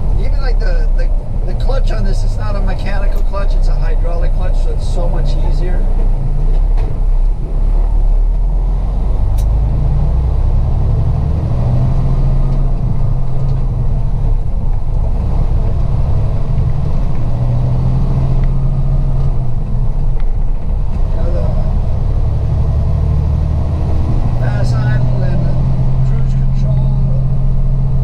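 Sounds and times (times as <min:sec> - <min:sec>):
road rumble: 0:00.0 - 0:28.0
truck diesel engine running: 0:00.0 - 0:28.0.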